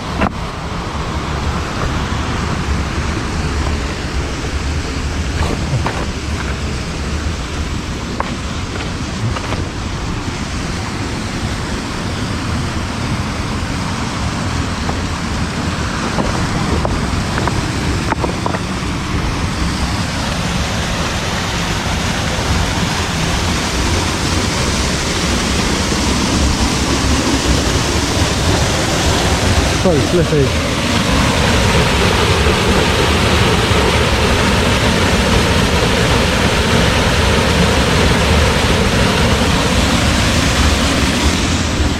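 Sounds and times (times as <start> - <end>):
waterfall rushing: 0.0 - 41.9
wind rumbling on microphone: 0.0 - 41.9.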